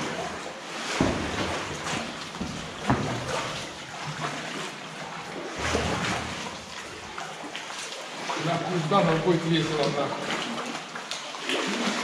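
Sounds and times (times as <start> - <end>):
paddles splashing in water: 0.0 - 12.0.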